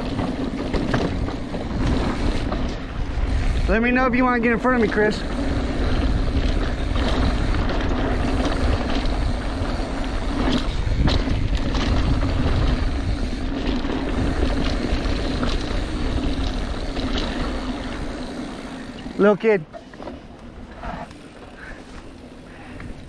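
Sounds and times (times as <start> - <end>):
wind buffeting microphone: 0.0 - 19.2
bike knocking and rattling: 0.0 - 23.0
tyres rumbling on gravel: 0.0 - 23.0.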